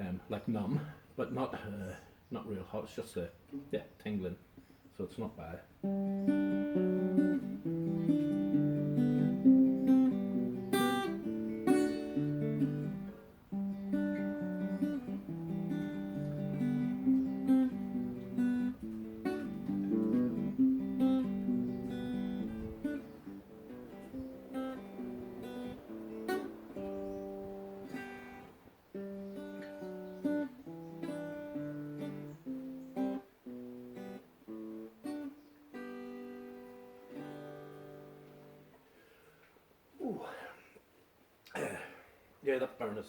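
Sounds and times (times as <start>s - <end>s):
acoustic guitar: 4.5s - 42.6s.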